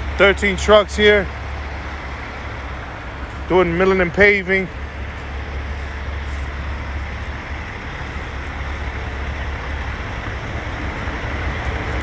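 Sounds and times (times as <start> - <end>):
heavy diesel engines rumbling: 0.0 - 12.0.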